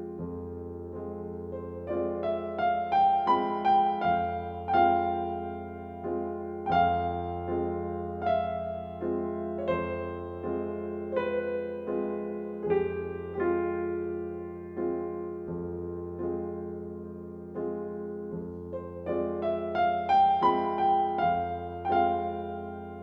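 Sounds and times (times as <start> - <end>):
slow gentle piano music: 0.0 - 23.0.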